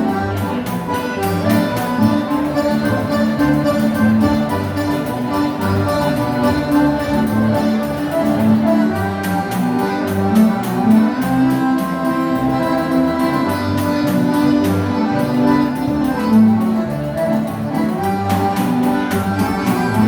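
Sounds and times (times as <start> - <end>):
live dance music: 0.0 - 20.0.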